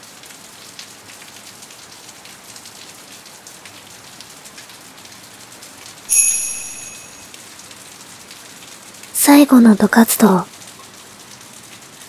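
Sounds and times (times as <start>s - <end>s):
steady rain falling: 0.0s - 6.1s, 7.3s - 12.0s.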